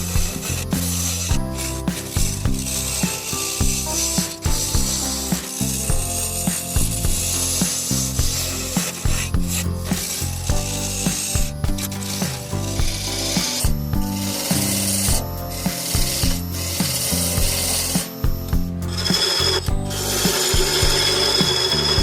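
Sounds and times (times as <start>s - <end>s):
machine rasping through wood: 0.0s - 18.2s, 18.9s - 22.0s.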